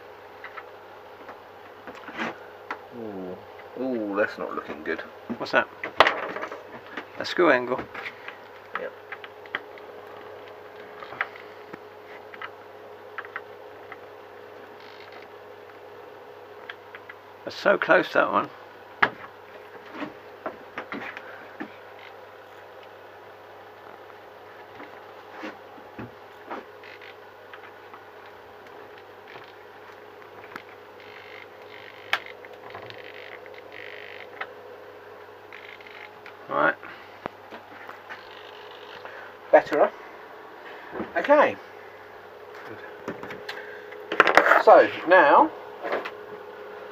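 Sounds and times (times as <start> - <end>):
faint whine: 0.0 - 46.9
steady low hum: 0.0 - 46.9.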